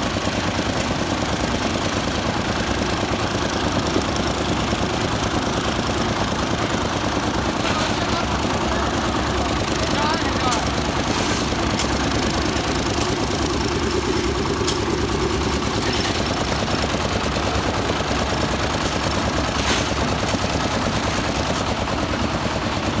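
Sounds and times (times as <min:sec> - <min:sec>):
concrete mixer engine running: 0:00.0 - 0:23.0.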